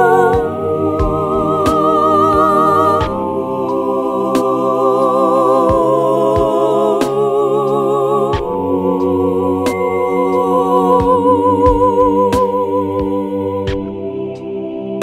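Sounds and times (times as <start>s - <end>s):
wavering vocal-like tones: 0.0s - 15.0s.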